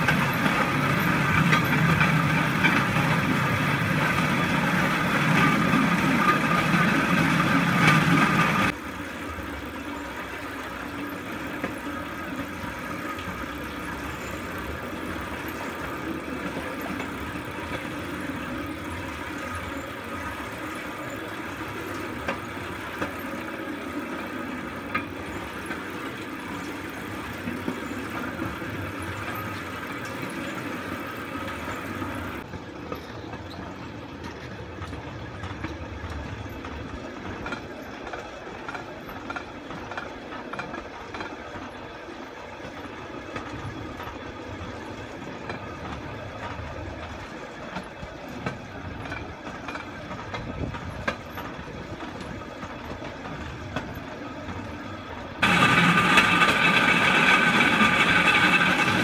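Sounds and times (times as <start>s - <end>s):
steel wheels rolling on rails: 0.0s - 59.0s.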